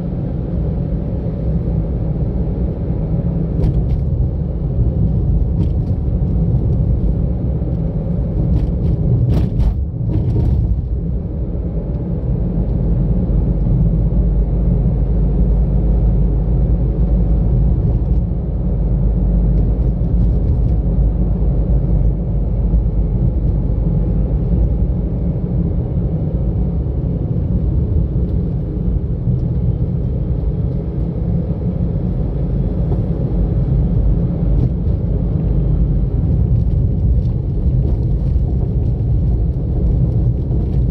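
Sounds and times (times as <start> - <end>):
engine and tyre rumble: 0.0 - 40.9.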